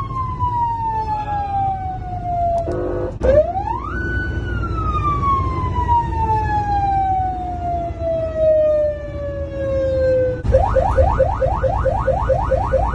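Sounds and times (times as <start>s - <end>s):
fire truck siren wailing: 0.0s - 12.9s.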